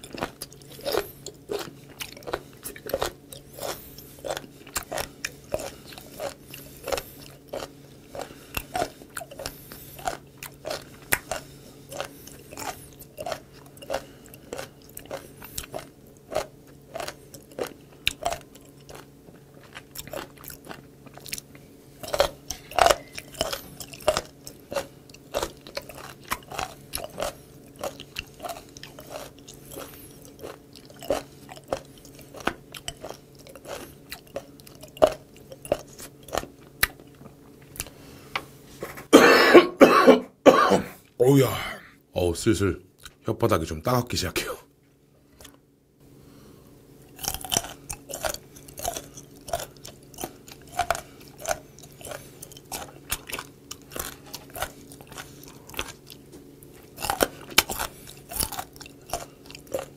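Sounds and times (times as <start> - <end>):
crunchy chewing: 0.0 - 38.9, 45.3 - 45.6, 47.0 - 59.9.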